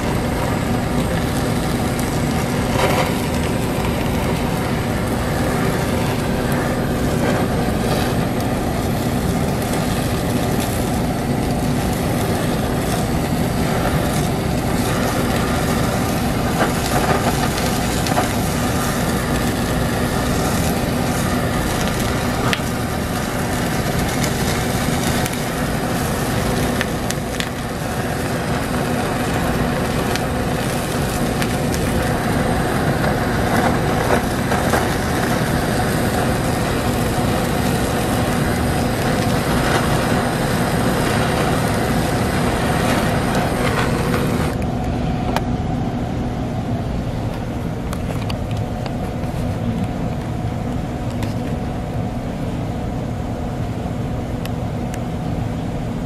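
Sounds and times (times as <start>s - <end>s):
kitchen torch hissing: 0.0s - 45.5s, 46.5s - 56.0s
low machine hum: 0.0s - 56.0s.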